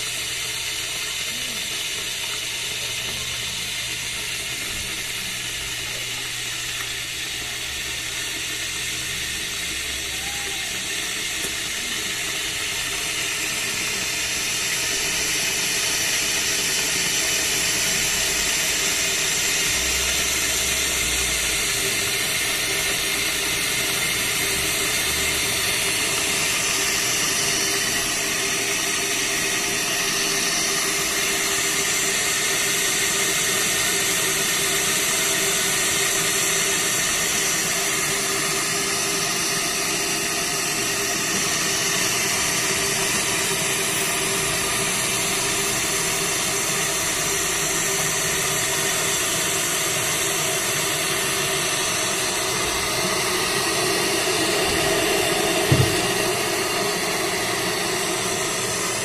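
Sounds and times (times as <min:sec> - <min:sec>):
electric kettle heating water: 0:00.0 - 0:59.0.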